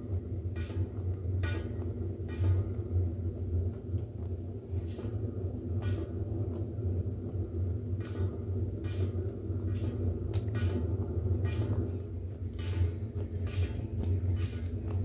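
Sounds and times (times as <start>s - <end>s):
pottery wheel motor humming: 0.0s - 15.0s.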